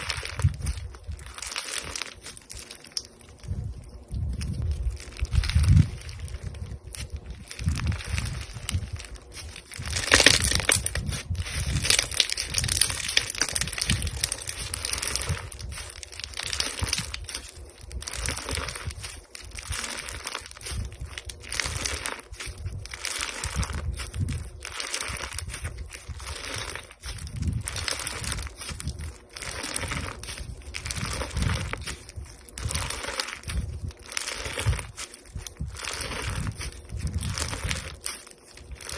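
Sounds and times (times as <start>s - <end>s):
slime squishing and popping: 0.0s - 38.9s.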